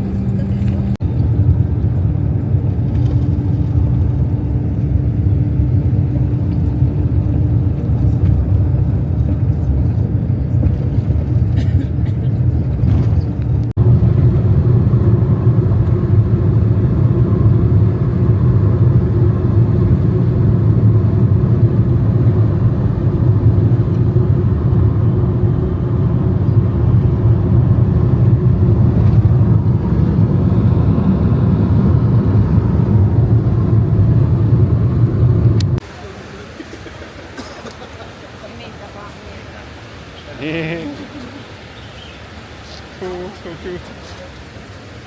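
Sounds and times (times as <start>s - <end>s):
road vehicle rumble: 0.0s - 45.0s.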